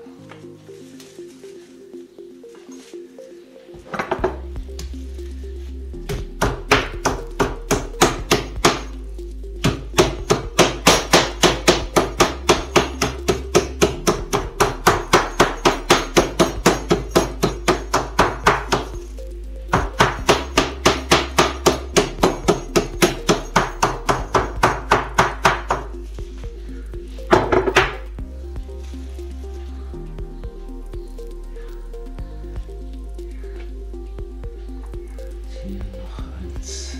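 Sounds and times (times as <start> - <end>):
background music: 0.0 - 36.9.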